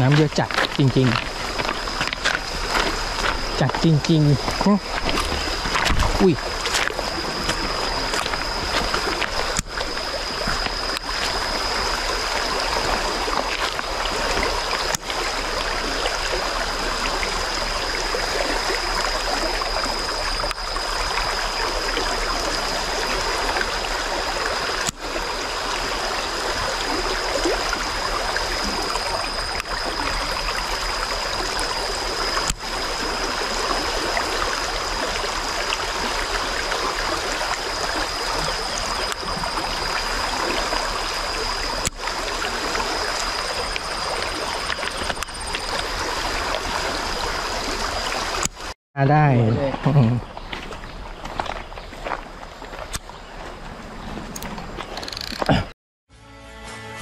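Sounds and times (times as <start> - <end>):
thin steady high tone: 0.0 - 48.5
stream water rushing and gurgling: 0.0 - 55.7.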